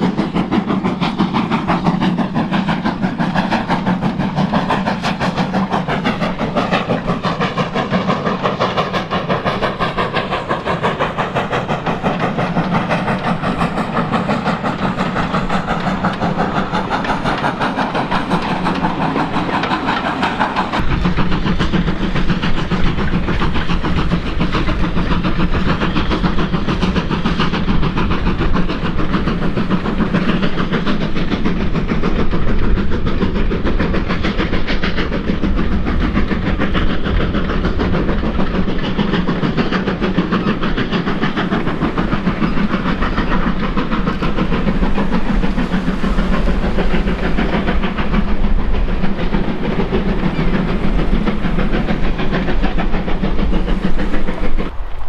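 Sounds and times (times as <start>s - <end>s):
steam locomotive exhaust and hiss: 0.0s - 55.0s
wheels clattering on rail: 0.0s - 55.0s.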